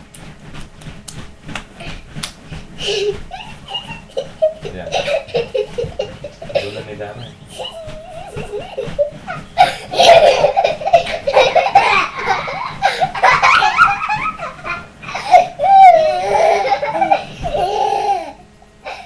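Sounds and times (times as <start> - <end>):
loud laughter: 2.8 - 19.0.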